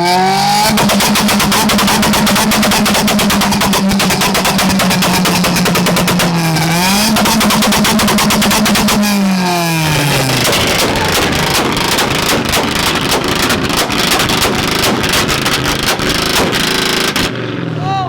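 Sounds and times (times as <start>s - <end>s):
exhaust pops and bangs: 0.0s - 17.6s
car engine revving: 0.0s - 17.8s.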